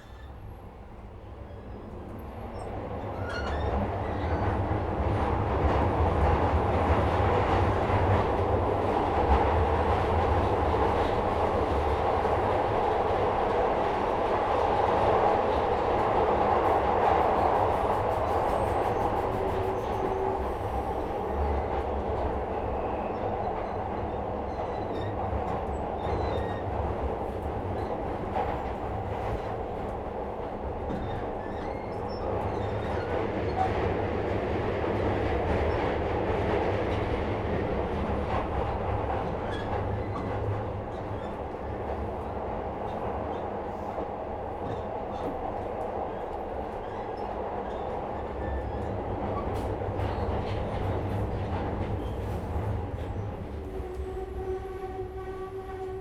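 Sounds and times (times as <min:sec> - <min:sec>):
subway train running in tunnel: 0:00.0 - 0:56.0
wheels rumbling on rail: 0:00.0 - 0:56.0.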